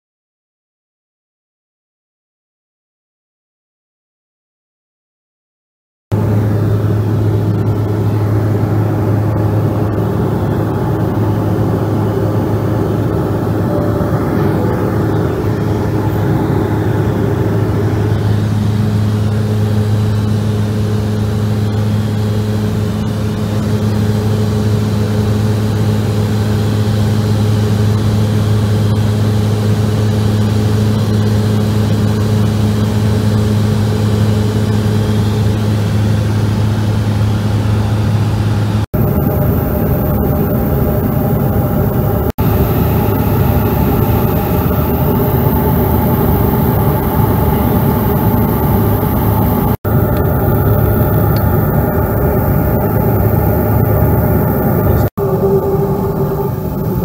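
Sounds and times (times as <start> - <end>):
propeller plane engines droning: 6.1 - 57.0.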